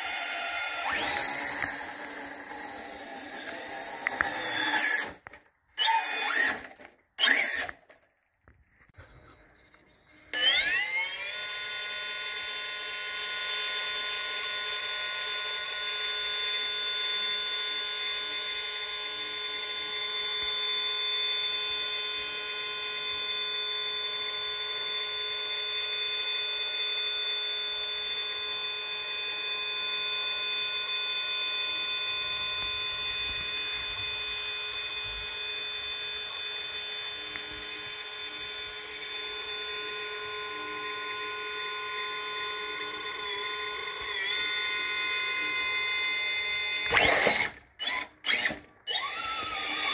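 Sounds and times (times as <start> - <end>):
electric motor whine: 0.0 - 7.8, 10.2 - 49.9.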